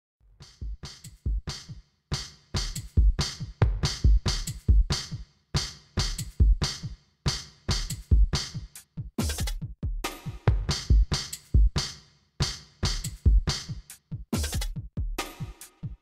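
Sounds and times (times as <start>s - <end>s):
electronic music with drum-machine beat: 0.5s - 16.0s.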